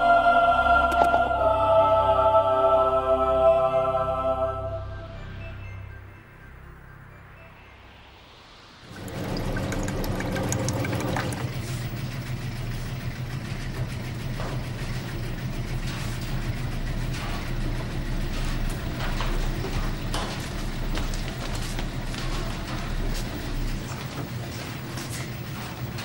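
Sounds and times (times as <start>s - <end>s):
washing machines humming: 0.0s - 26.0s.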